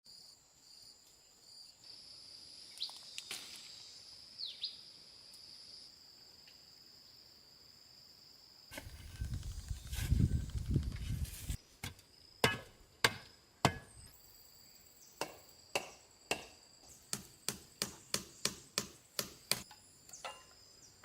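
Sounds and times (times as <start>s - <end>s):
insects buzzing: 0.1s - 21.0s.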